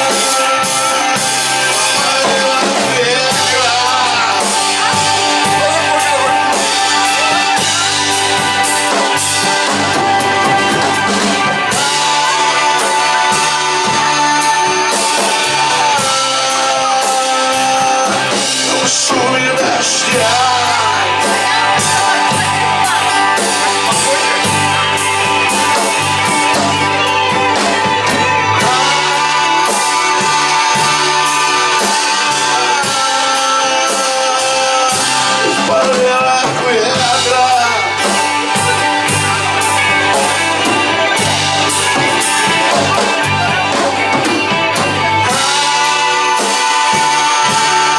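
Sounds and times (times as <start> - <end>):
bass guitar: 0.0 - 47.9
electric guitar lead with bending notes: 0.0 - 47.9
steady drum beat: 0.0 - 47.9.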